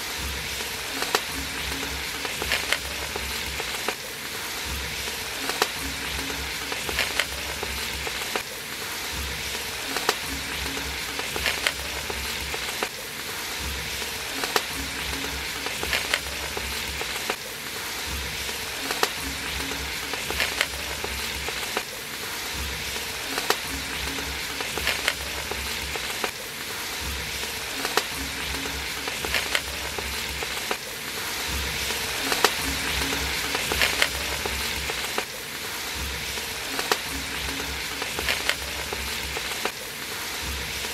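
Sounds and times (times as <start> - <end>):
vegetables sizzling in a pot: 0.0 - 40.9.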